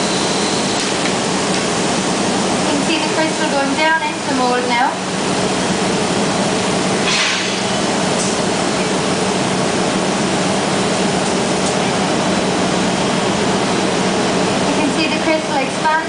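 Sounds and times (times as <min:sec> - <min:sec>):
industrial machinery noise: 0:00.0 - 0:16.0.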